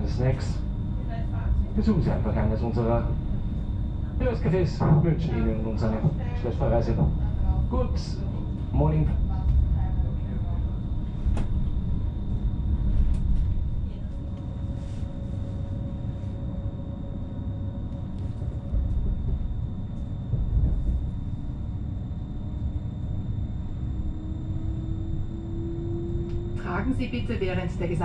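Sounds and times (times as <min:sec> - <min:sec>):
train wheels rumbling on rail: 0:01.0 - 0:16.1, 0:18.0 - 0:28.0
faint electric motor whine: 0:05.2 - 0:28.0.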